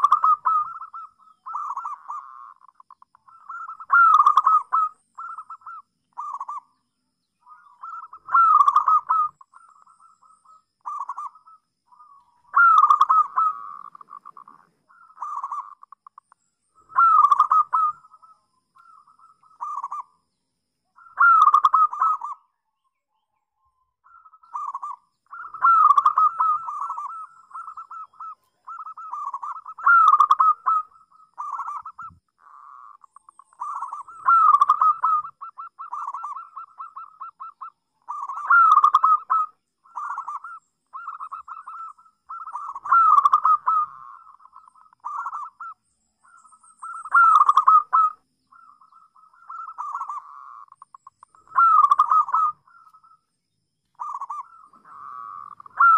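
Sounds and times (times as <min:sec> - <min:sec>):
dove cooing: 0:00.0 - 0:06.7, 0:07.4 - 0:16.1, 0:16.8 - 0:20.1, 0:21.0 - 0:22.4, 0:24.0 - 0:53.2, 0:54.0 - 0:55.9.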